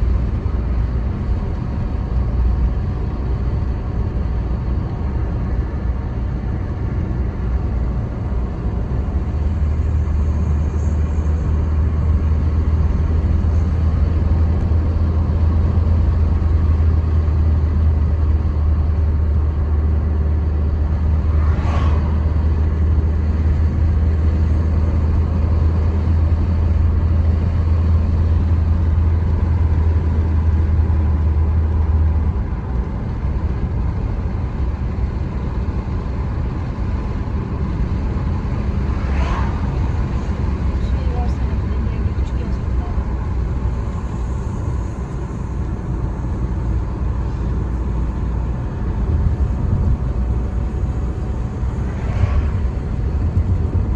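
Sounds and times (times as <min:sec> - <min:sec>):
car engine and road noise: 0:00.0 - 0:53.9
deep drone: 0:00.0 - 0:53.9.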